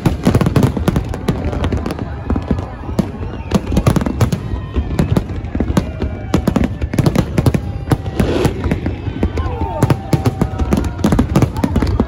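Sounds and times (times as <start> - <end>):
firework crackle: 0.0 - 12.0.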